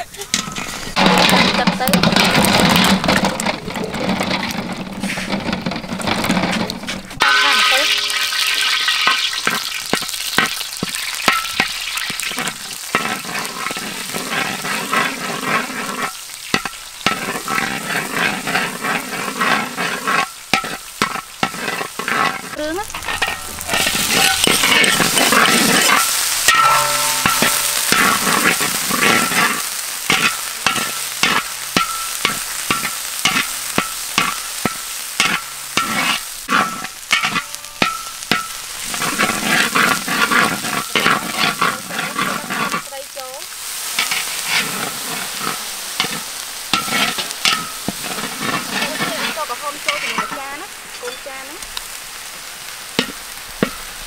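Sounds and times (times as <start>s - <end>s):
metal spatula scraping a wok: 0.0s - 52.0s, 52.9s - 54.0s
paste sizzling in hot oil: 0.0s - 54.0s.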